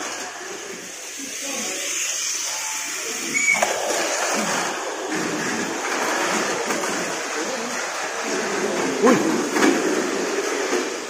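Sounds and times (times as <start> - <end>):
whirring of small electric motors: 0.0 - 11.0.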